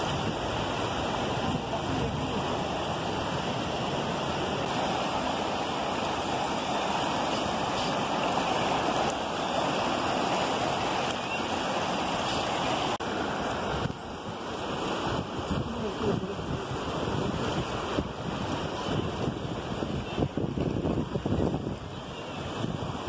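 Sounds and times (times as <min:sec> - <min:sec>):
river rushing through rapids: 0:00.0 - 0:23.0.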